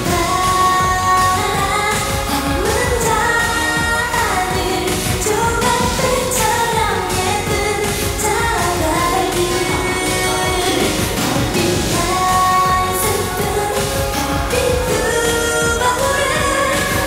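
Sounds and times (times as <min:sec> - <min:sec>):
pop song with woman singing: 0:00.0 - 0:17.0.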